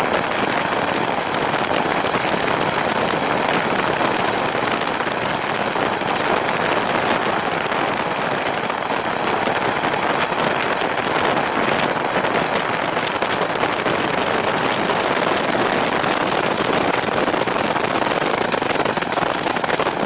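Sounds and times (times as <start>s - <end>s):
helicopter rotor and engine noise: 0.0s - 20.0s
wind on microphone: 0.0s - 20.0s.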